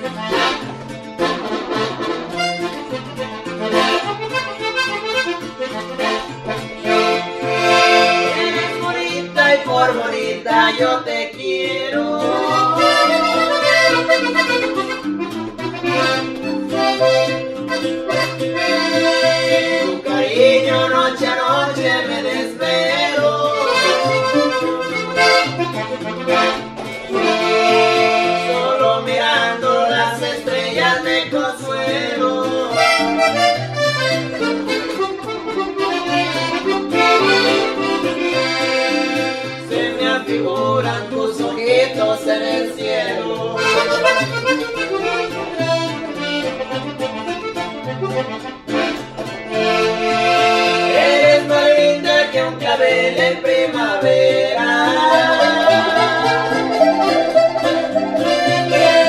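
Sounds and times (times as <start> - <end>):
button accordion melody: 0.0 - 59.0
strummed bass guitar chords: 0.0 - 59.0.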